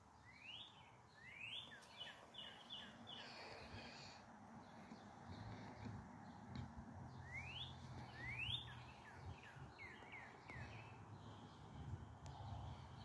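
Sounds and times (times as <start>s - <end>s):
songbird calls: 0.2s - 13.0s.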